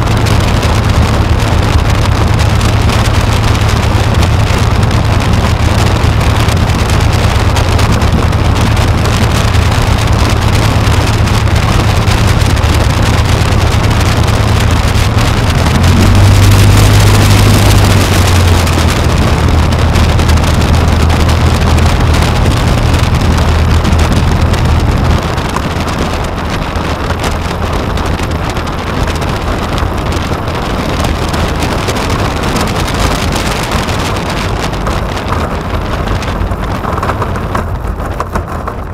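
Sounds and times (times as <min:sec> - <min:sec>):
light aircraft engine running: 0:00.0 - 0:38.9
rushing noise: 0:00.0 - 0:38.9.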